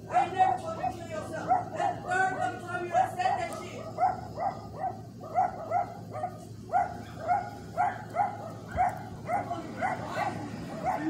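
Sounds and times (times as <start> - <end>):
dog barking: 0.1 - 11.0.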